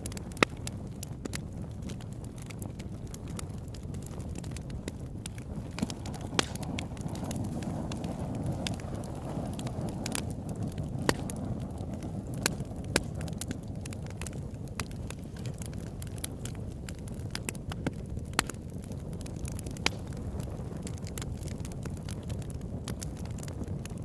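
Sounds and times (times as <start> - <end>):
low rumble of fire: 0.0 - 24.0
wood crackling and popping: 0.0 - 24.0.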